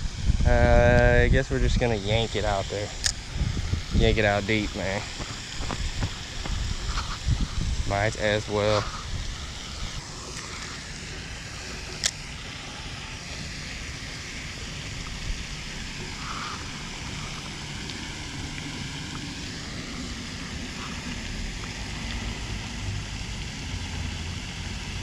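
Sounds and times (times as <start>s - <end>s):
outdoor wind: 0.0s - 25.0s.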